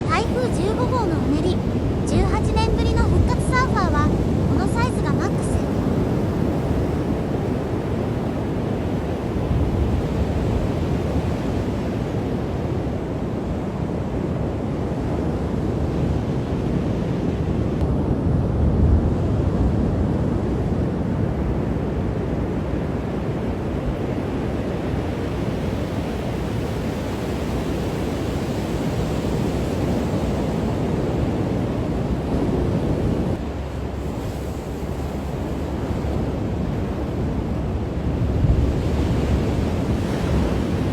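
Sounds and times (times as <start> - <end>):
ocean waves breaking: 0.0 - 40.9
wind rumbling on microphone: 0.0 - 40.9.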